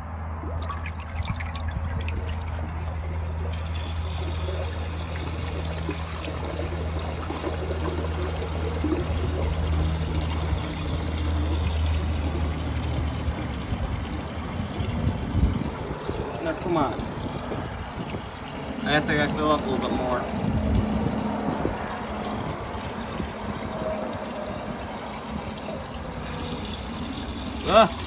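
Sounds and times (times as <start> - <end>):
toilet bowl refilling: 0.4 - 28.0
toilet flushing: 0.6 - 28.0.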